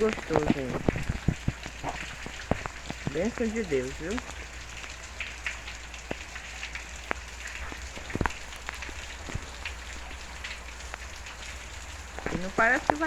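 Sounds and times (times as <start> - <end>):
drops tapping close by: 0.0 - 13.0
heavy rain falling: 0.0 - 13.0.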